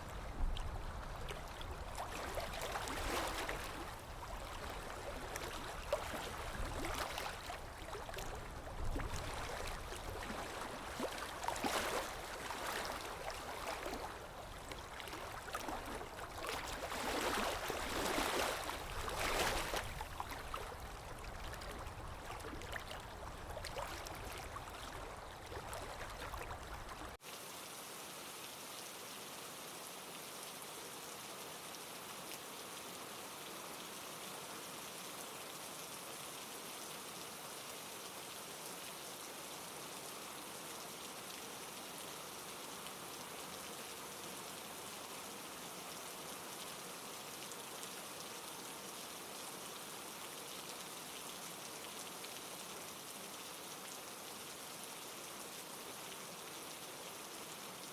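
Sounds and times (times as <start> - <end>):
gurgling stream water: 0.0 - 57.9.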